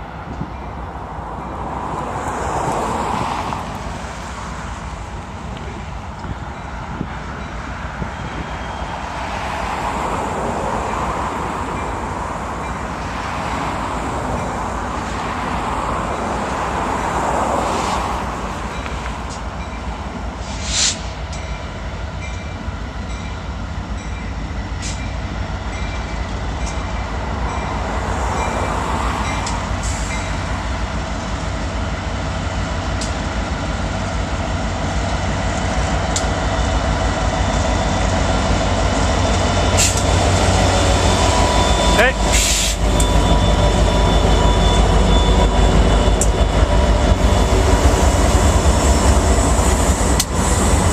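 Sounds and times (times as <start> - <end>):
freight train wheels rumbling on rail: 0.0 - 50.9.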